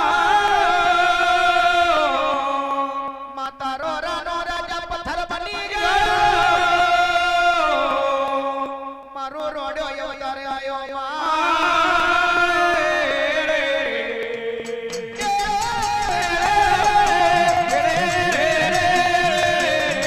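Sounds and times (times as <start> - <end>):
devotional folk singing: 0.0 - 20.0.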